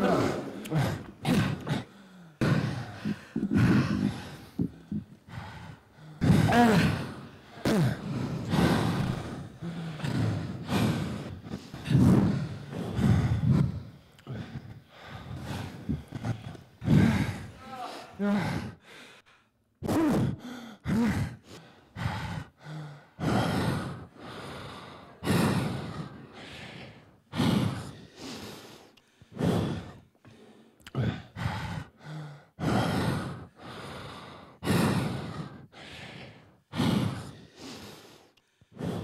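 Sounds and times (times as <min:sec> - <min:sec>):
heavy amplified breathing: 0:00.0 - 0:19.6, 0:20.2 - 0:39.0.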